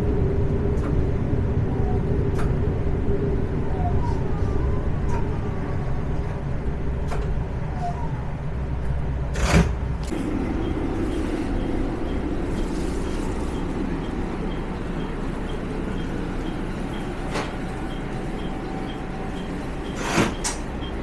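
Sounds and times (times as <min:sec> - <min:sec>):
diesel railcar rumbling: 0:00.0 - 0:21.0.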